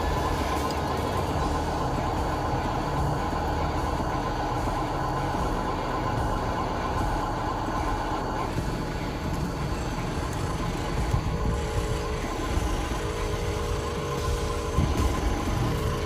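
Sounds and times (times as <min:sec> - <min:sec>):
model truck motor drone: 0:00.0 - 0:16.0.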